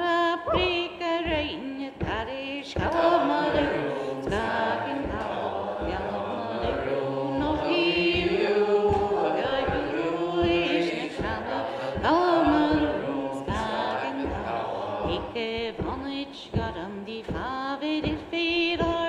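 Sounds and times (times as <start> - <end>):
group singing: 0.0 - 19.0.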